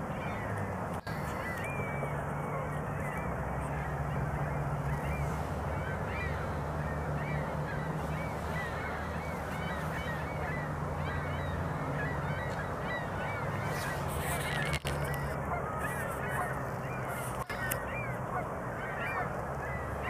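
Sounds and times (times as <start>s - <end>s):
geese honking: 0.0s - 20.0s
steady low hum: 0.0s - 20.0s.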